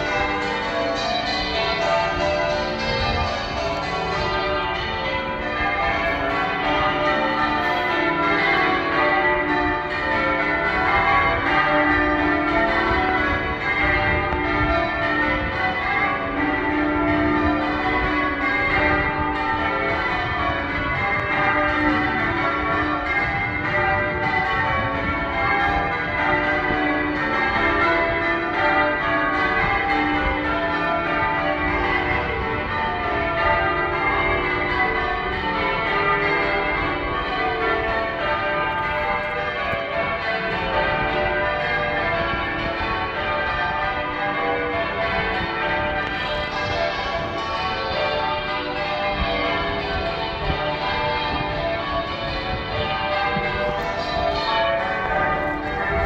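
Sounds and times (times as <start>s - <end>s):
church bells change ringing: 0.0s - 56.0s.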